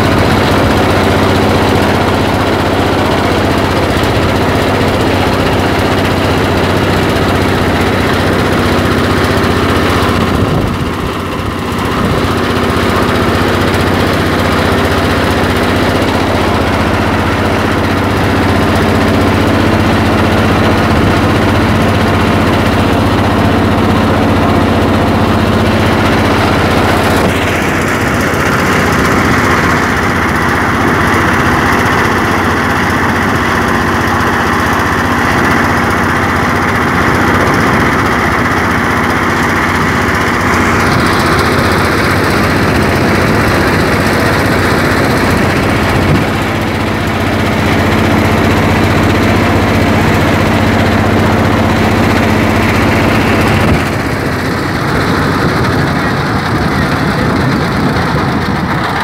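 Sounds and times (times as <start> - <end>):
engine running with rattly hum: 0.0 - 59.0.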